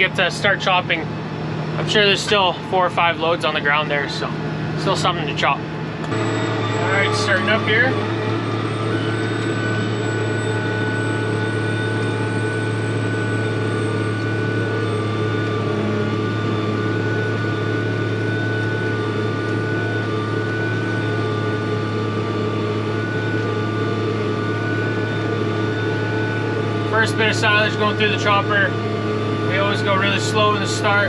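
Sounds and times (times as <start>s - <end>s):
steady high whine: 0.0s - 31.0s
tractor engine hum: 0.0s - 31.0s.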